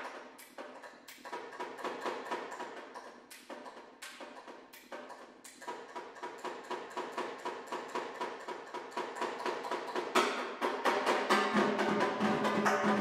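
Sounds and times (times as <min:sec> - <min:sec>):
snare drum strokes: 0:00.0 - 0:13.0.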